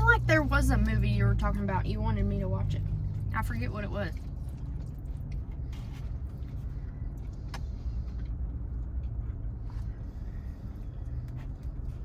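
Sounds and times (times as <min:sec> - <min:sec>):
low engine rumble inside cabin: 0:00.0 - 0:12.0.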